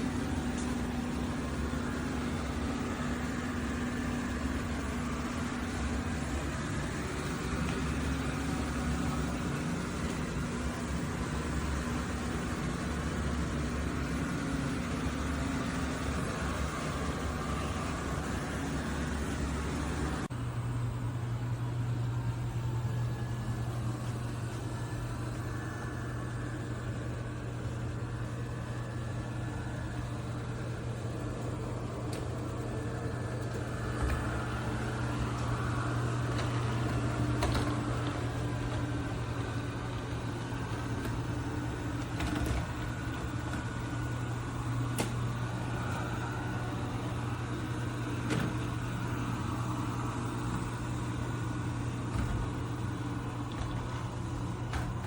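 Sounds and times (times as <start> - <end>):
robot vacuum running: 0.0 - 20.3, 21.1 - 55.0.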